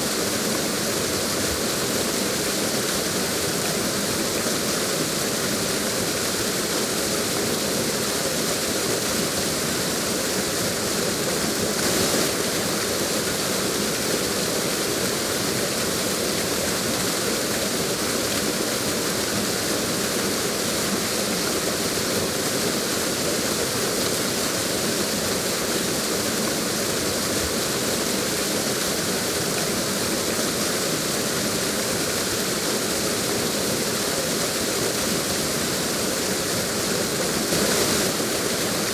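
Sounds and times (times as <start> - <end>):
waterfall pouring: 0.1 - 38.9.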